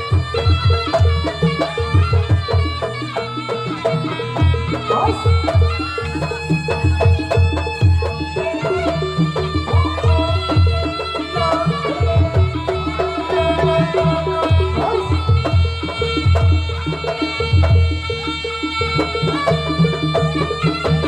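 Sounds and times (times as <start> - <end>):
ringing metal percussion: 0.0 - 21.0.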